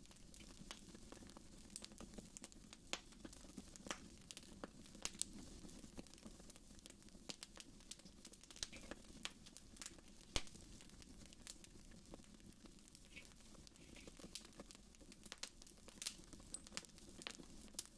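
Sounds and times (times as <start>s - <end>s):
fire crackling and popping: 0.0s - 17.9s.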